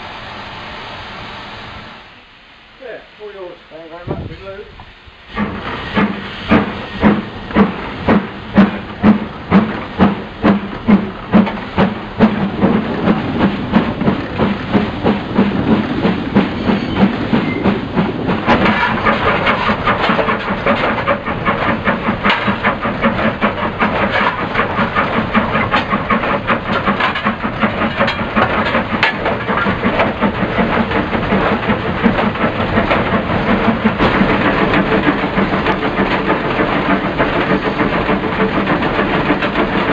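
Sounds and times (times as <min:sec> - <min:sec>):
steam locomotive exhaust beats: 0:00.0 - 0:39.9
rushing clatter of moving engine: 0:04.1 - 0:39.9.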